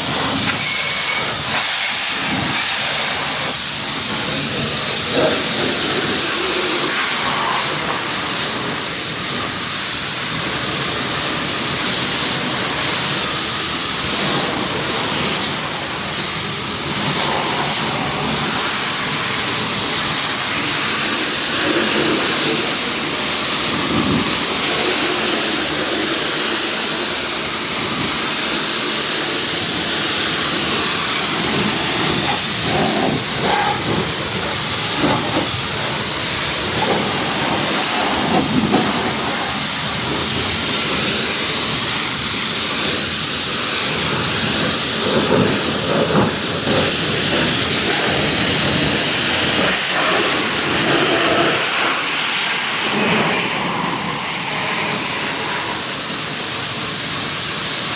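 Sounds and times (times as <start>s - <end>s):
pressure washer spraying: 0.0s - 57.9s.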